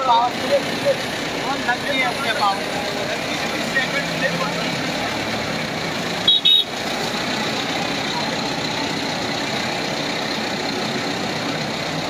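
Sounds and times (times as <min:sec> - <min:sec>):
rickshaw engine and road noise: 0:00.0 - 0:12.0.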